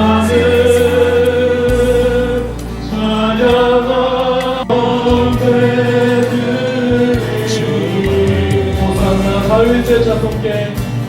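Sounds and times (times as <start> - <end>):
bass line: 0.0 - 11.0
group singing worship song: 0.0 - 11.0
instrumental accompaniment: 0.0 - 11.0.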